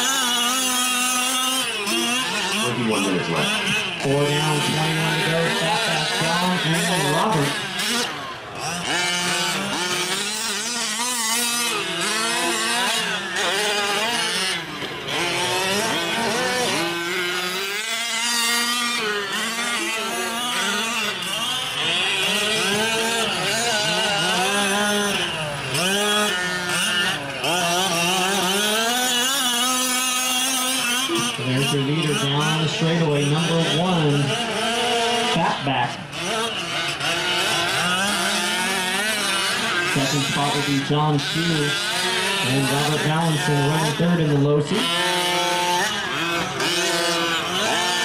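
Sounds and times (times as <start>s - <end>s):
small two-stroke engines revving: 0.0s - 48.0s.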